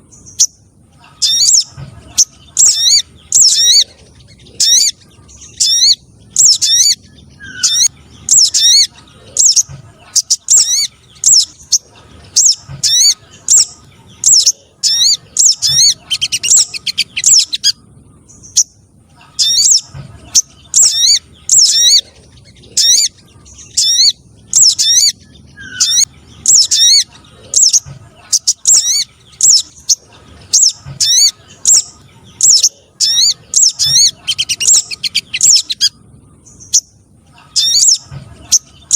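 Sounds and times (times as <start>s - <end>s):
high bird chirps: 0.0s - 38.9s.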